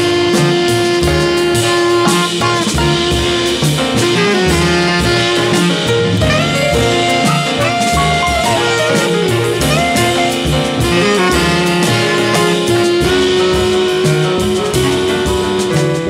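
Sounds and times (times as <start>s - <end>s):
bass clarinet: 0.0s - 16.0s
double bass: 0.0s - 16.0s
piano: 0.0s - 16.0s
tenor saxophone: 0.0s - 16.0s.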